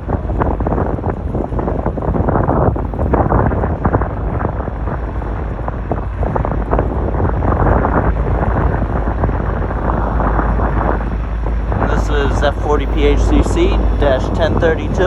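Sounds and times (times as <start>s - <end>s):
diesel locomotive rumble: 0.0s - 15.0s
wind buffeting the microphone: 0.0s - 15.0s.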